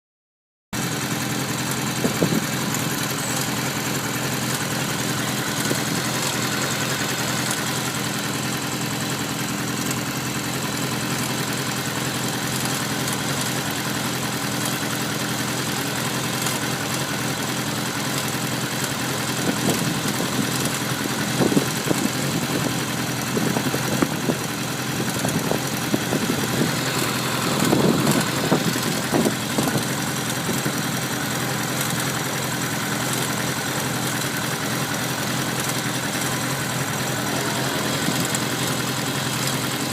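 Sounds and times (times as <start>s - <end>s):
engine clicking: 0.8s - 39.9s
motorcycle engine idling: 0.8s - 39.9s.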